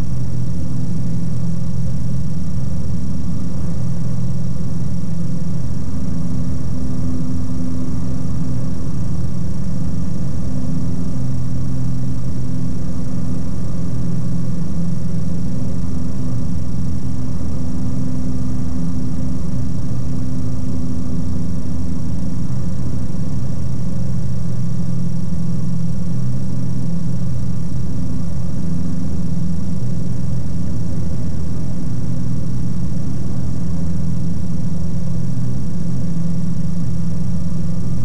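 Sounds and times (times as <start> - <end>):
faint high whine: 0.0 - 38.0
light aircraft engine droning: 0.0 - 38.0.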